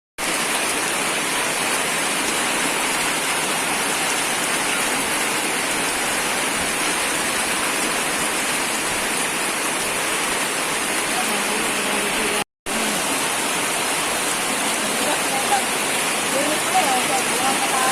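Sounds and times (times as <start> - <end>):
steady rain hissing: 0.2 - 17.9.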